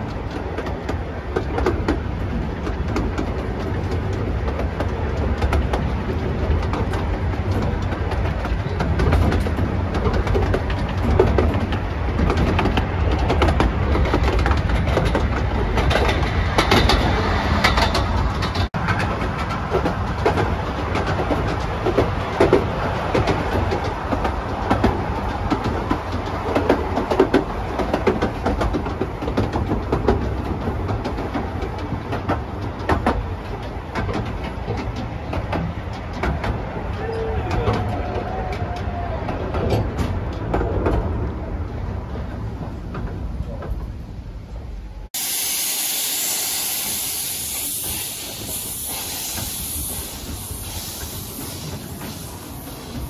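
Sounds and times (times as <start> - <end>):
carriage clicks and rattles: 0.0 - 44.0
train wheels rumbling on rail: 0.0 - 53.0.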